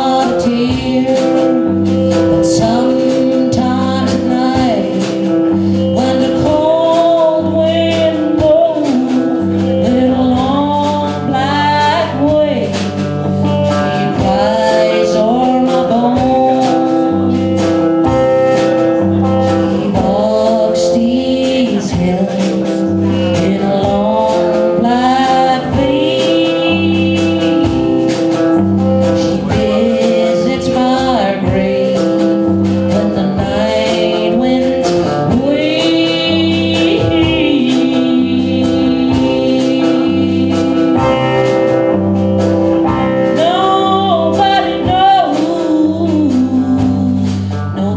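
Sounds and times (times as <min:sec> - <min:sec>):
live band playing country-rock: 0:00.0 - 0:47.9.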